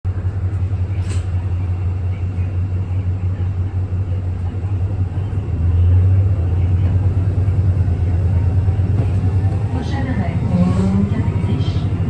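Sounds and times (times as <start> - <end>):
bus low drone: 0.1 - 12.0.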